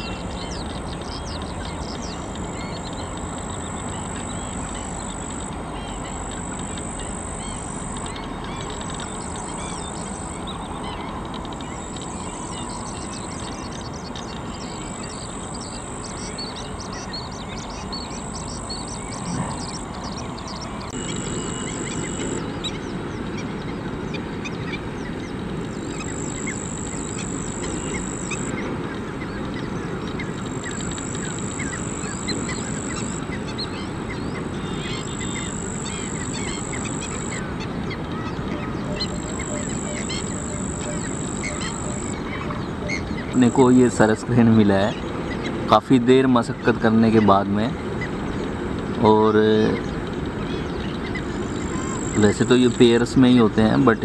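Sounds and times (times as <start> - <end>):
high buzz: 0.0 - 23.6, 24.3 - 54.0
wetland birds calling: 0.0 - 54.0.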